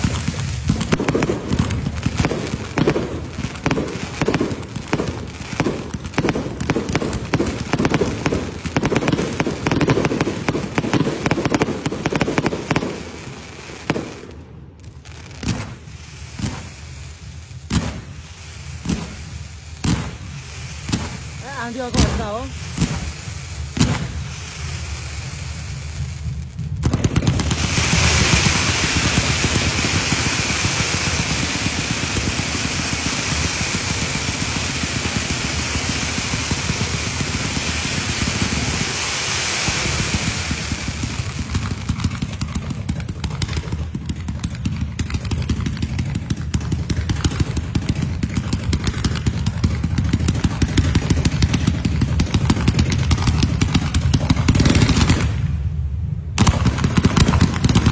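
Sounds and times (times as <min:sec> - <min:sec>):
fireworks launch pops: 0:00.0 - 0:55.7, 0:56.3 - 0:57.9
hissing rush of fireworks: 0:00.0 - 0:57.9.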